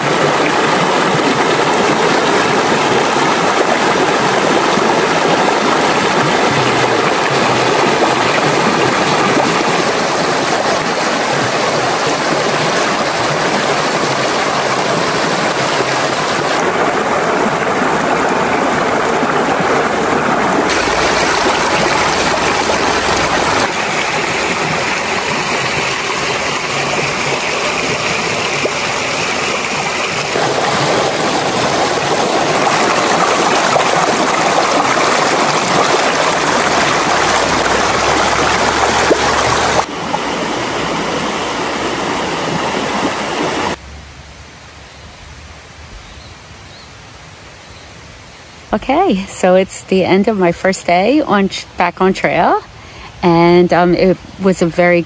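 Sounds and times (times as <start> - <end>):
stream rushing over stones: 0.0 - 44.8.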